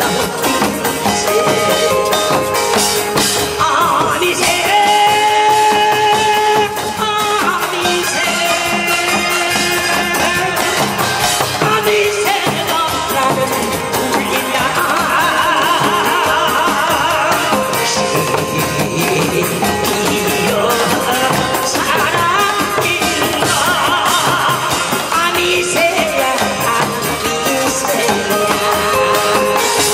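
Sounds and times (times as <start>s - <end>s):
backing music with percussion: 0.0s - 29.9s
man singing with vibrato: 0.0s - 29.9s.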